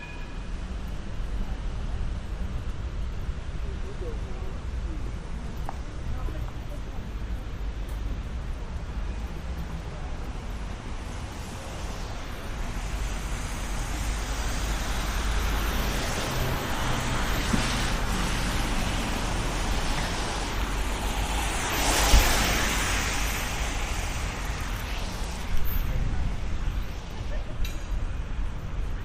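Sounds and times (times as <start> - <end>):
low traffic rumble: 0.0 - 29.0
tyres hissing on wet road: 0.5 - 29.0.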